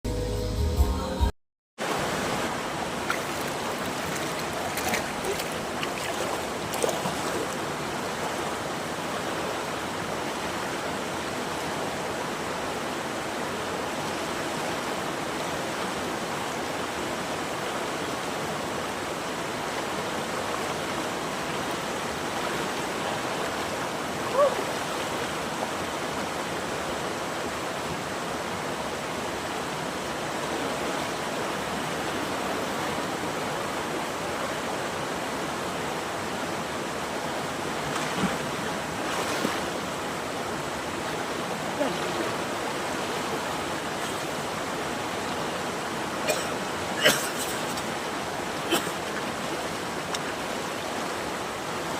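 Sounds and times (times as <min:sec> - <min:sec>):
water rushing: 0:01.8 - 0:51.9.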